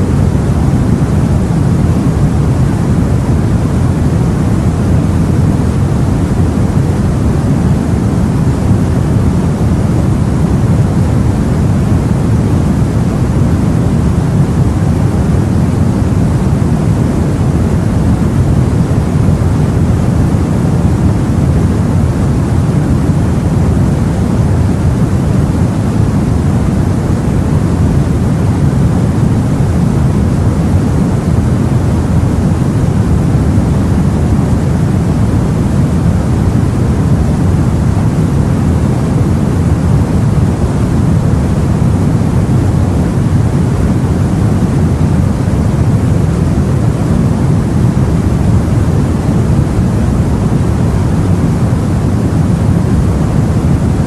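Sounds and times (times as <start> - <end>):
low rumbling sea noise: 0.0 - 54.0.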